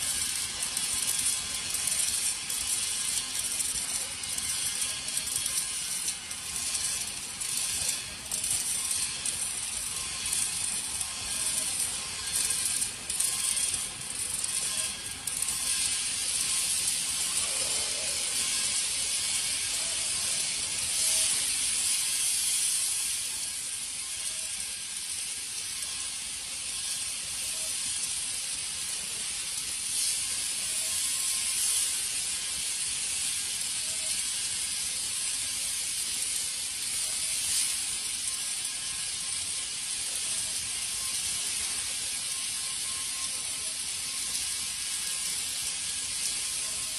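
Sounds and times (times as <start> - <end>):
welding arc crackling hiss: 0.0 - 46.9.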